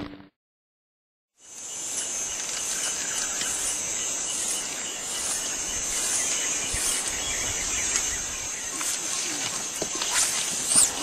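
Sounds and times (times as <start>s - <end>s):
insects chorus: 1.4s - 11.0s
open-air ambience hiss: 1.4s - 11.0s.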